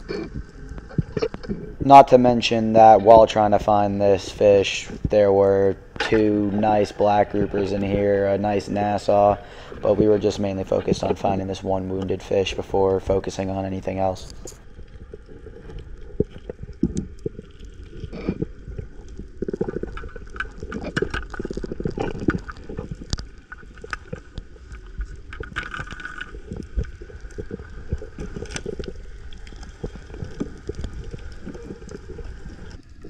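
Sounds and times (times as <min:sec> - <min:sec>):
underwater rushing and gurgling: 0:00.0 - 0:33.0.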